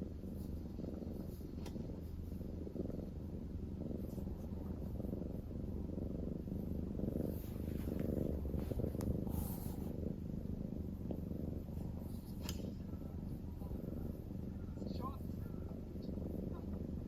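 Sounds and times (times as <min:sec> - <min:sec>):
cat purring: 0:00.0 - 0:17.0
soft rustle: 0:00.0 - 0:17.0.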